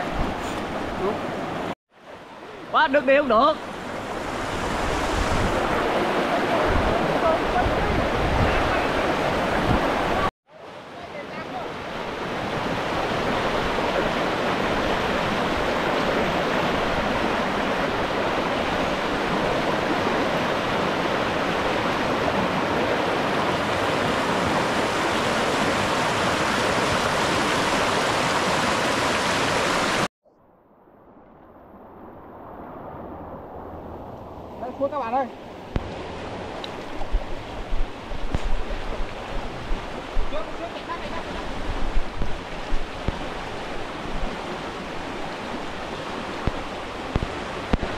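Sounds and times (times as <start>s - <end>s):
stream rushing: 0.0s - 30.1s, 31.6s - 47.9s.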